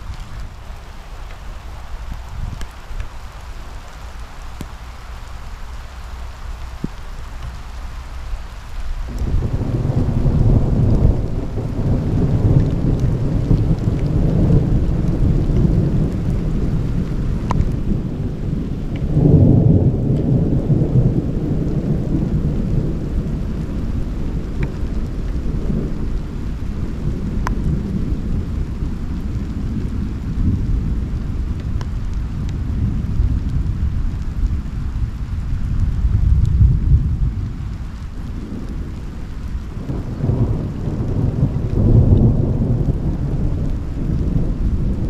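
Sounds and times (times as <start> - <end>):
thunder rumbling: 0.0 - 45.0.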